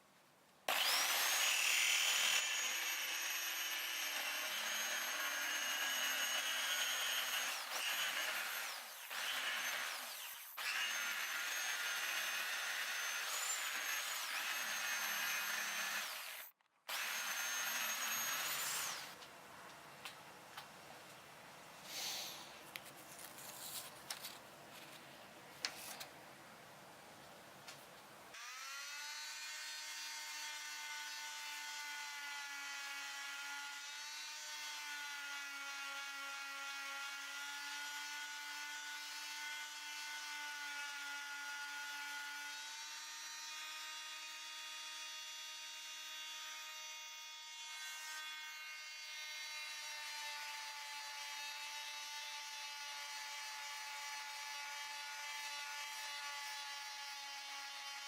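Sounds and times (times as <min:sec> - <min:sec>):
electric power tool whine: 0:00.7 - 0:19.2, 0:28.4 - 0:44.5, 0:45.4 - 0:58.0.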